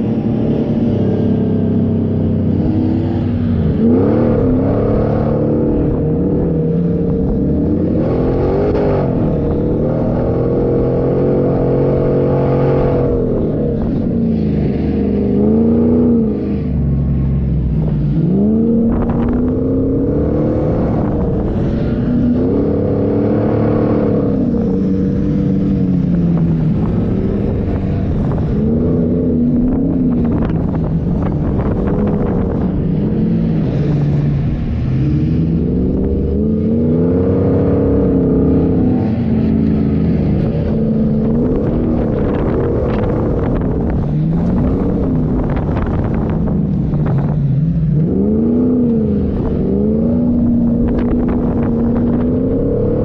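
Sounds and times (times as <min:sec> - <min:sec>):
constant low rumble: 0:00.0 - 0:53.0
engine revving: 0:00.0 - 0:53.0.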